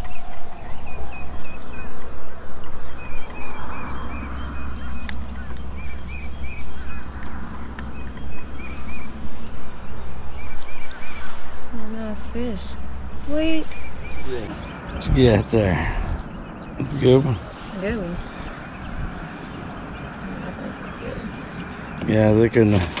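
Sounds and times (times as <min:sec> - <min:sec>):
bird chirping: 0:00.0 - 0:23.0
wind buffeting microphone: 0:00.0 - 0:23.0.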